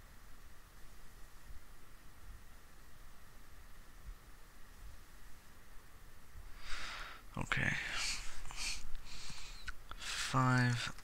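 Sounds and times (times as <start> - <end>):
microphone hiss and hum: 0.0 - 11.0.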